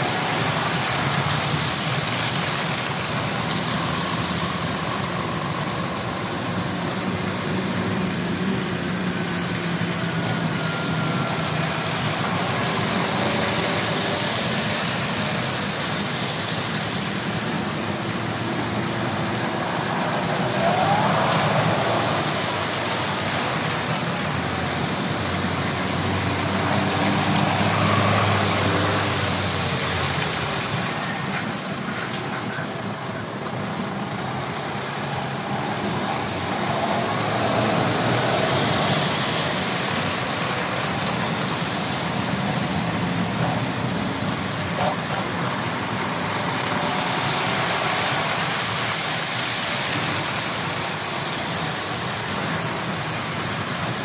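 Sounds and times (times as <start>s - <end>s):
lorries driving past: 0.0s - 54.0s
tyre noise on wet road: 0.0s - 54.0s.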